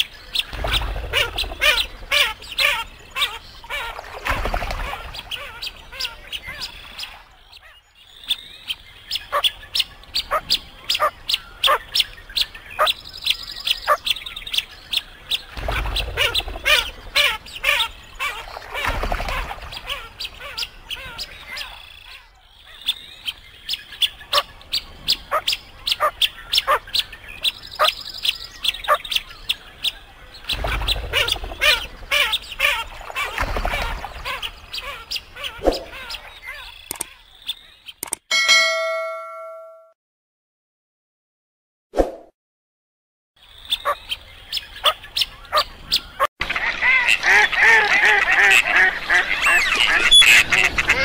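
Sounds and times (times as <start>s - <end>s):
birds chirping and squawking: 0.0s - 38.2s, 43.4s - 51.0s.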